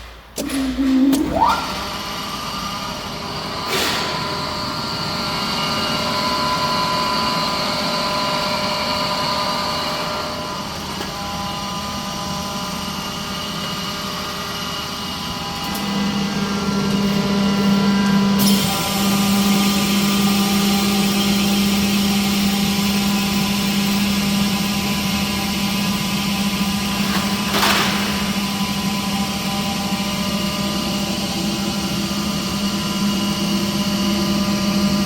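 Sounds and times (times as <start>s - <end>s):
air compressor whining: 0.0s - 35.0s.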